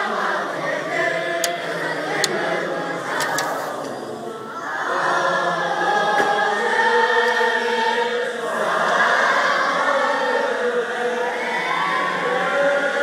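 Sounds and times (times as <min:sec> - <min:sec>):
monks singing in unison: 0:00.0 - 0:13.0.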